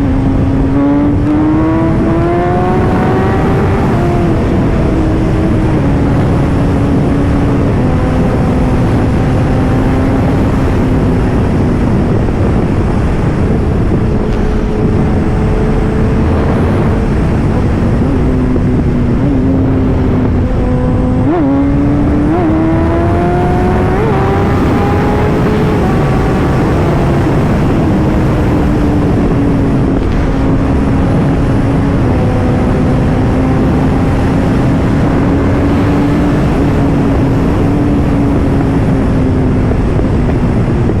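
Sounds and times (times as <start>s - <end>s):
motorcycle engine running: 0.0s - 41.0s
wind rush on microphone: 0.0s - 41.0s.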